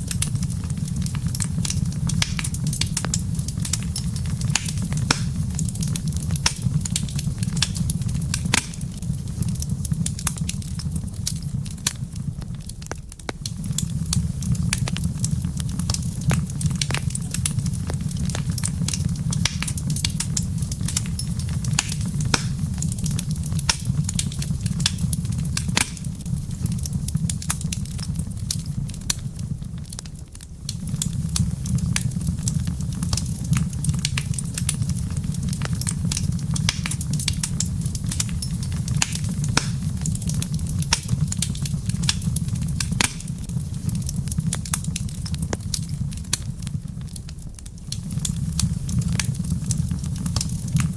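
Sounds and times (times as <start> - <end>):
fire pops and snaps: 0.0 - 50.9
wood fire crackling: 0.0 - 50.9.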